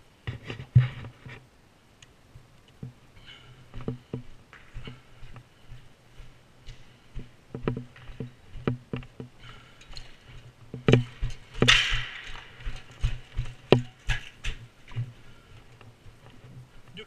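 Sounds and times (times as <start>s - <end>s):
footsteps crunching over rubble: 2.4s - 17.0s.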